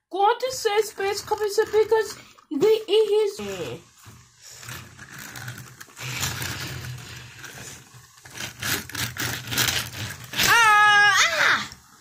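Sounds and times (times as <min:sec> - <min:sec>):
toy train clicks and rattles: 0:00.3 - 0:11.9
toy train wheels rolling on track: 0:00.4 - 0:12.0.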